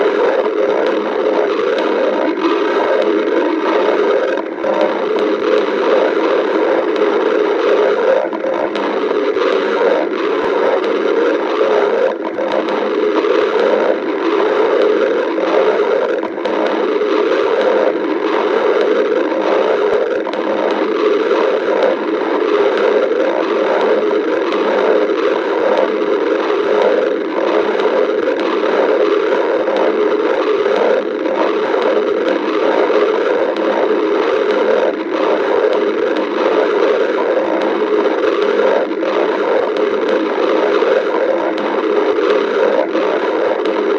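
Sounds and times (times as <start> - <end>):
stomach growling: 0.0 - 43.9.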